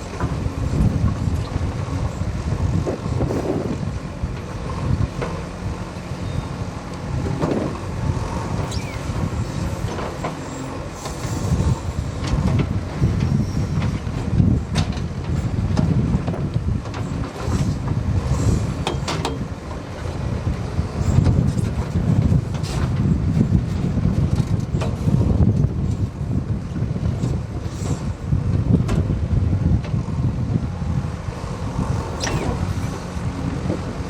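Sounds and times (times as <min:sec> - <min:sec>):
backhoe loader engine running: 0:00.0 - 0:34.0.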